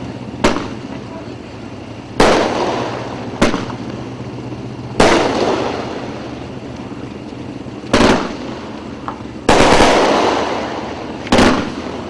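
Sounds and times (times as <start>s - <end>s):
firework bangs with rumble: 0.0s - 12.0s.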